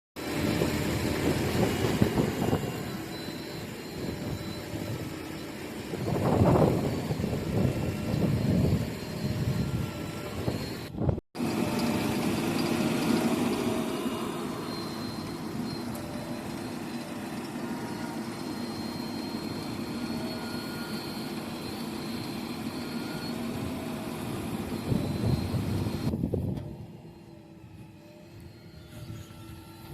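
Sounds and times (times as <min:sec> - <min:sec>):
heavy machinery diesel engine: 0:00.2 - 0:29.9.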